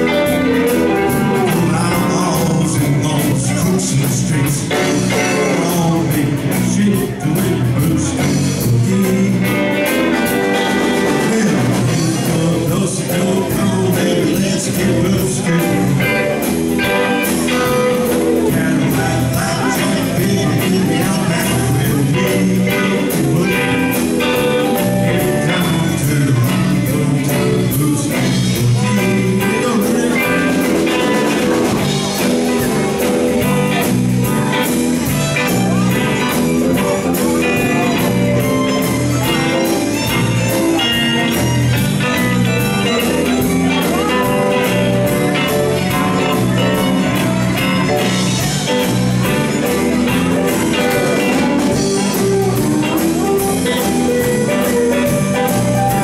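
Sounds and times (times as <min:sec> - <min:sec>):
live country band playing: 0:00.0 - 0:56.0.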